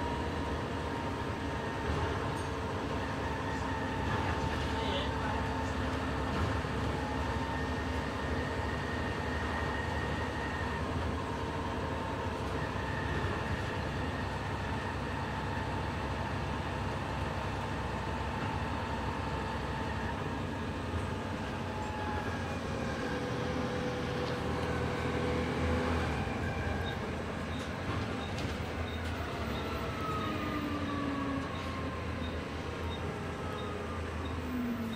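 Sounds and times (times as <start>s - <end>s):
bus diesel engine droning: 0.0s - 34.9s
road noise: 0.0s - 34.9s.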